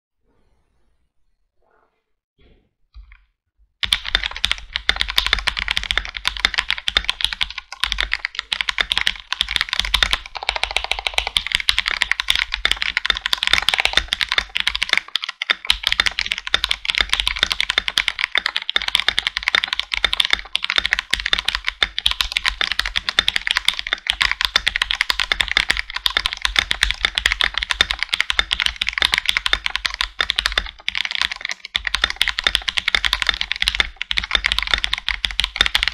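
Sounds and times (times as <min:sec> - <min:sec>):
mechanical keyboard typing: 0:03.8 - 0:35.9.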